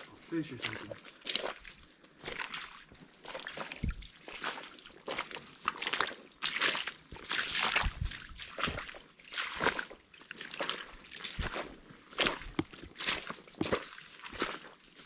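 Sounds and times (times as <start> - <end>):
footsteps wading through water: 0.0 - 15.0.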